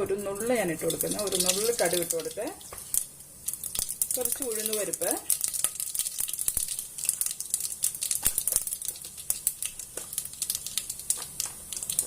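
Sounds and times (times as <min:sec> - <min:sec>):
oil sizzling: 0:00.0 - 0:12.0
seeds crackling and popping in oil: 0:00.0 - 0:12.0.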